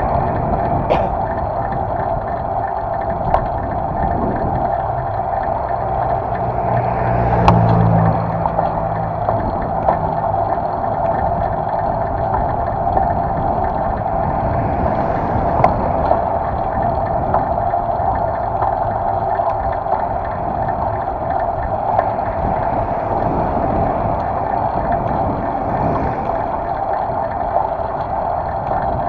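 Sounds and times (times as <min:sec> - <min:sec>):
bicycle road noise: 0:00.0 - 0:29.0
wind noise: 0:00.0 - 0:29.0.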